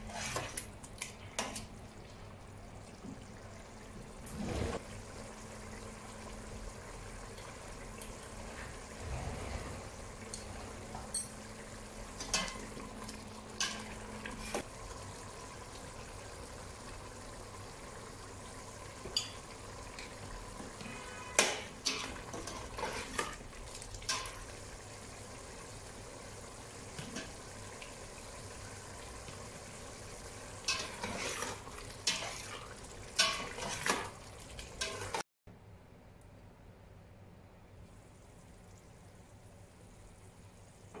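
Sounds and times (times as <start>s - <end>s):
food simmering and sizzling: 0.0s - 35.2s.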